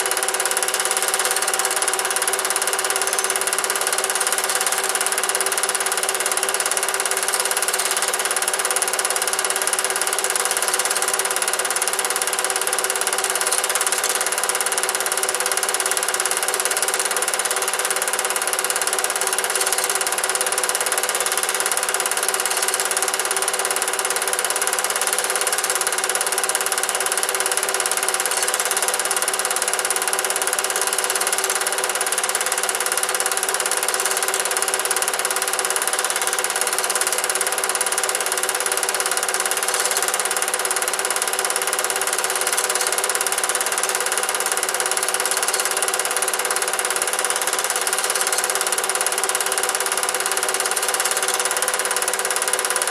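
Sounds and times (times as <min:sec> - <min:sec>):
film projector whirring: 0:00.0 - 0:52.9.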